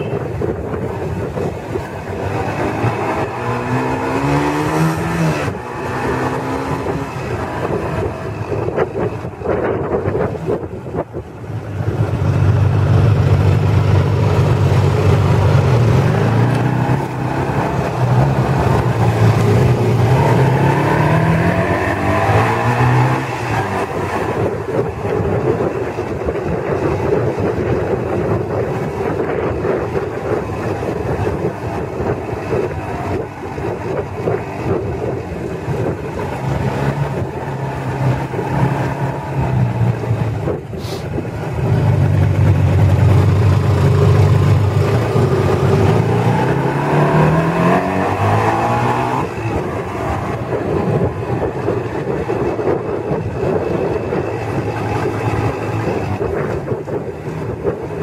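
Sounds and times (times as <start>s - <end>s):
motorcycle engine running: 0.0s - 48.4s, 49.1s - 58.0s
wind and road rush: 0.0s - 58.0s.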